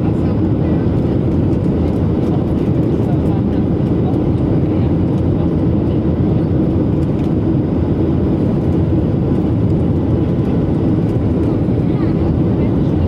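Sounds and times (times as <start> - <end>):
jet engines in airliner cabin: 0.0 - 13.0.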